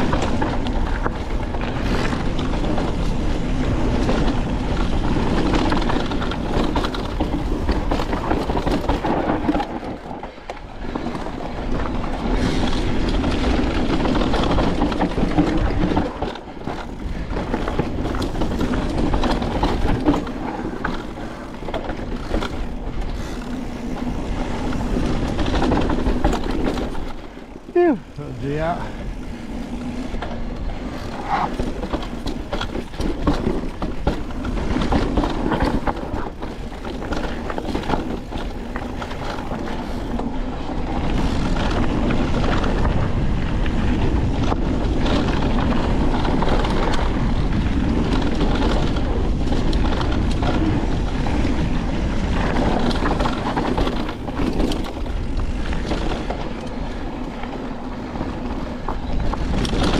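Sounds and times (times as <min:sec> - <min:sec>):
bike rattling over rough trail: 0:00.0 - 0:59.9
tyres crunching over rocks: 0:00.0 - 0:59.9.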